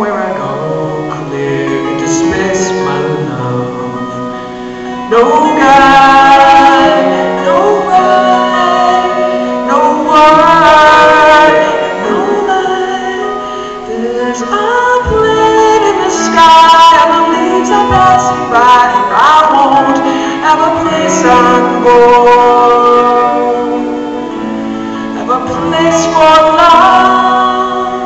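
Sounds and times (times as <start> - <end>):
harmonica solo with bending notes: 0.6 - 28.0.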